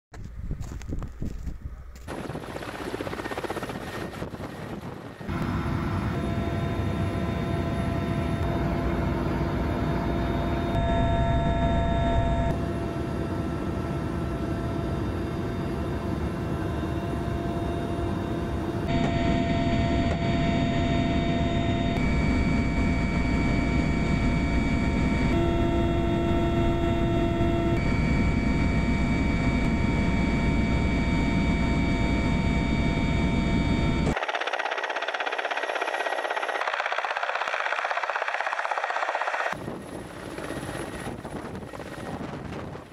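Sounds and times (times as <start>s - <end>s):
helicopter engines and rotor: 0.3s - 42.9s.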